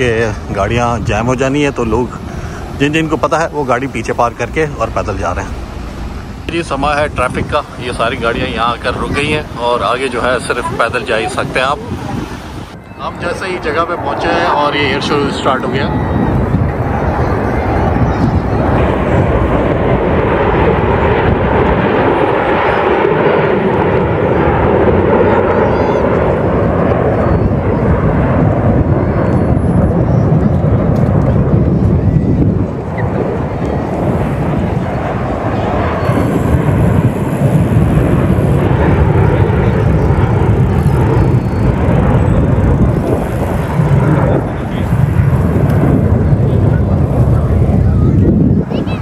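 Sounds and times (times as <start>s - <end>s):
jet engines roaring: 0.0s - 49.0s.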